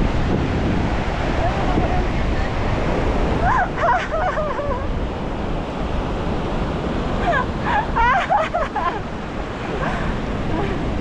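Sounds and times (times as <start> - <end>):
waves breaking on shore: 0.0 - 11.0
wind rumble on microphone: 0.0 - 11.0.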